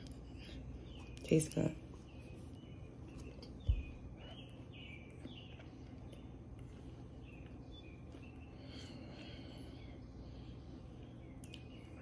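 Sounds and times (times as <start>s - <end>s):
low steady hum: 0.0s - 12.0s
bird chirps: 0.2s - 12.0s.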